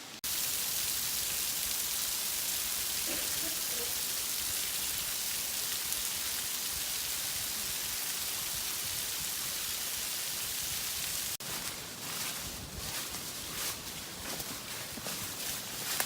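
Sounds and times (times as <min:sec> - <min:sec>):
water falling and splashing: 0:00.0 - 0:16.0.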